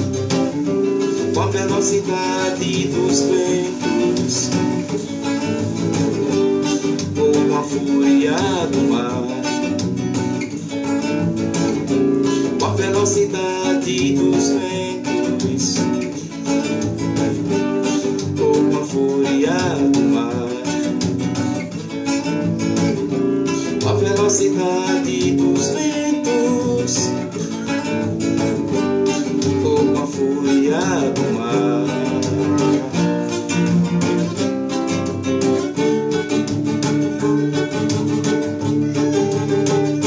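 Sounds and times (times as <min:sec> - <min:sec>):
acoustic guitar strumming chords: 0:00.0 - 0:40.0.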